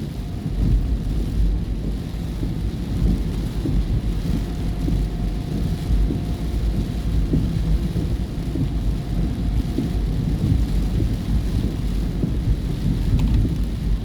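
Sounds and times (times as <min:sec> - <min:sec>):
car road rumble from inside: 0:00.0 - 0:14.0.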